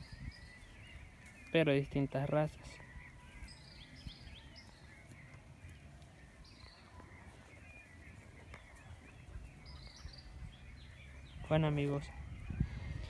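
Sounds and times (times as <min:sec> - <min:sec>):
bird chirps and calls: 0:00.0 - 0:13.0
low rumble of wind: 0:00.0 - 0:13.0.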